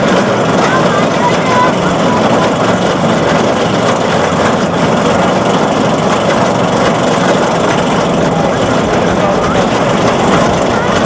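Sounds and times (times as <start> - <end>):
roller coaster track rattle: 0.0 - 11.0.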